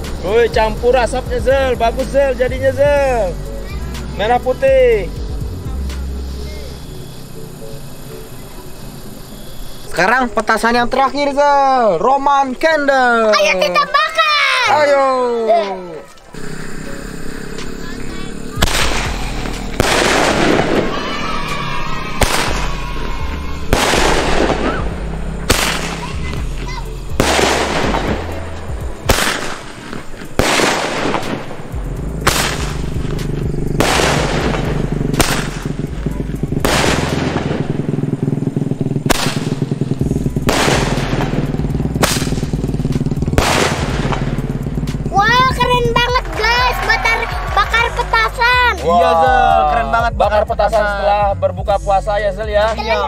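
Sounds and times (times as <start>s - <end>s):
background music: 0.0s - 12.7s, 13.3s - 53.0s.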